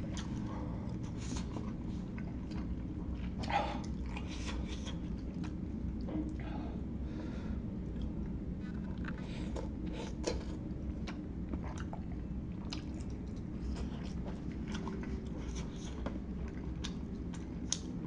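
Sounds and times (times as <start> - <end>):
person chewing and eating: 0.0 - 6.4, 7.8 - 18.0
steady low hum: 0.0 - 18.0.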